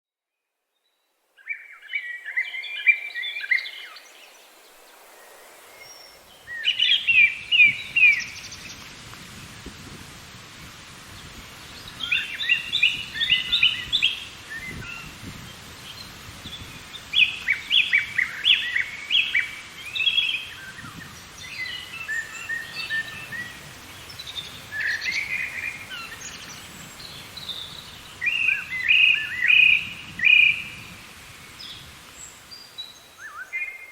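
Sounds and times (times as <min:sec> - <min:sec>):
faint steady hiss: 0:00.4 - 0:33.9
songbird chirping: 0:00.7 - 0:09.1, 0:11.2 - 0:33.9.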